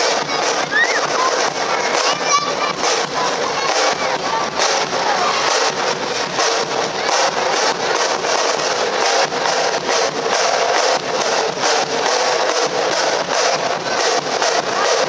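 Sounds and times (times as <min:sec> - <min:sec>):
dense noisy background: 0:00.0 - 0:15.0
music with steady drum beat: 0:00.0 - 0:15.0.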